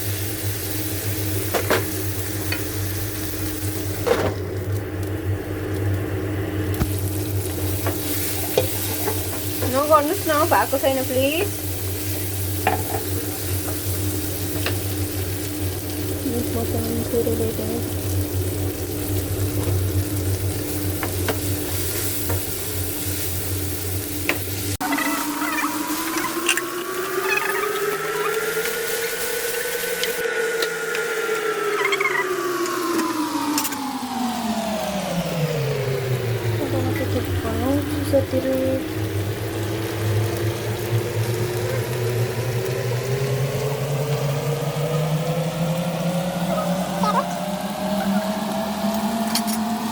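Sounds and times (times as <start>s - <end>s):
food sizzling in a pan: 0.0s - 49.9s
rising whine: 0.0s - 49.9s.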